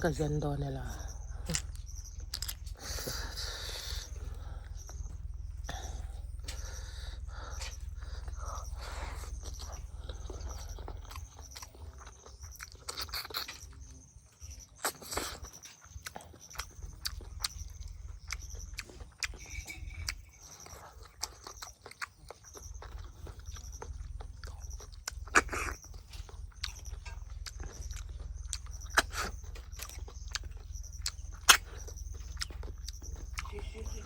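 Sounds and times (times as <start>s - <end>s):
chewing and biting: 0.9s - 34.0s.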